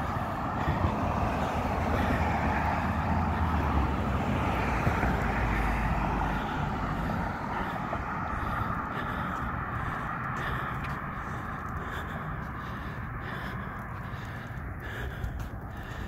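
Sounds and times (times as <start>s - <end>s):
vehicles driving past: 0.0s - 16.0s.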